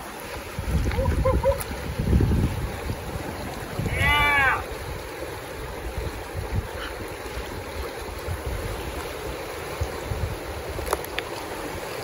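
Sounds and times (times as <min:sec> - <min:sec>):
river water rushing: 0:00.0 - 0:12.0
wind on microphone: 0:00.4 - 0:11.0.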